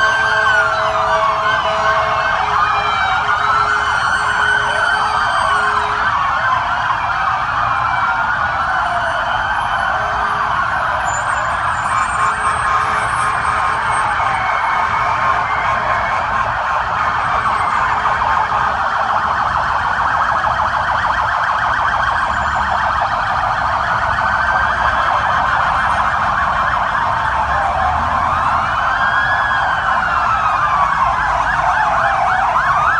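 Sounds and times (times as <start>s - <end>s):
police sirens yelping: 0.0s - 32.9s
siren rising and falling wail: 0.0s - 32.9s.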